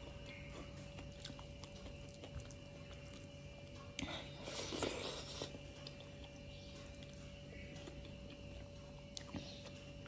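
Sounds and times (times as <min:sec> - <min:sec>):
mouth chewing: 0:00.0 - 0:09.9
faint steady hum: 0:00.0 - 0:10.0.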